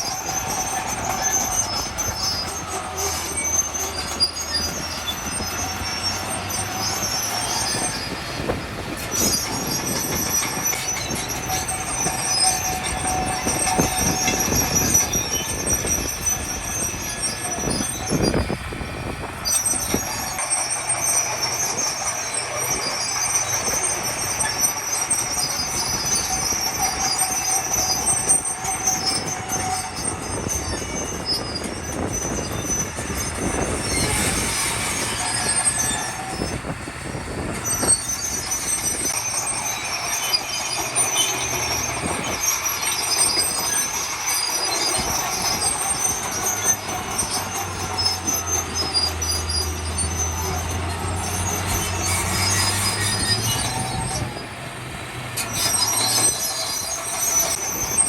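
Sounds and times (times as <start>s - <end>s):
diesel engine rumble: 0.0s - 58.0s
metallic squealing and grinding: 0.0s - 58.0s.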